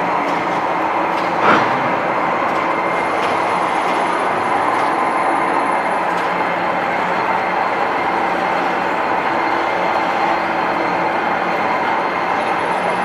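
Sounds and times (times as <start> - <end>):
turntable mechanical running noise: 0.0 - 13.0.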